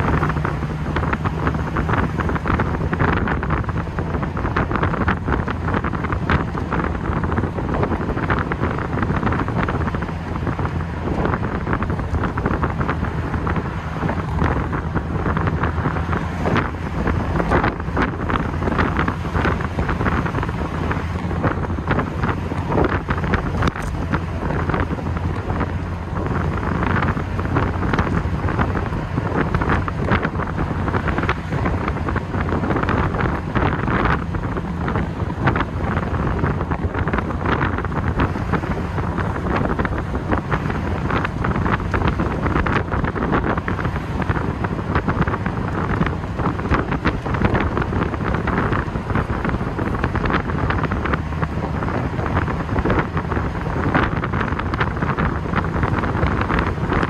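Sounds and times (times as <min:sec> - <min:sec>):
car engine burbling: 0:00.0 - 0:57.0
wind buffeting microphone: 0:00.0 - 0:57.0.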